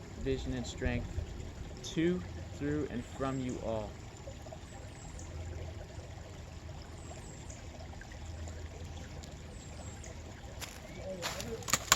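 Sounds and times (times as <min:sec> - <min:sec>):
running water rushing: 0:00.0 - 0:11.9.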